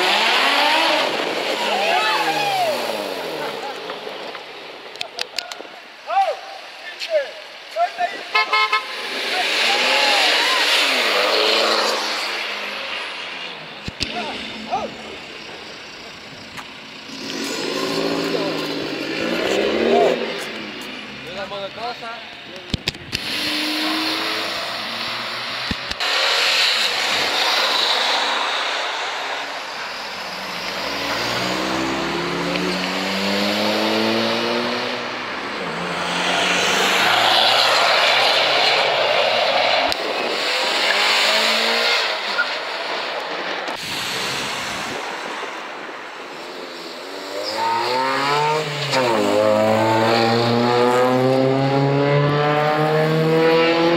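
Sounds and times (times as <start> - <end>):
cars accelerating engines revving: 0.0 - 5.2, 8.2 - 53.9
rushing exhaust and road noise: 0.0 - 53.9.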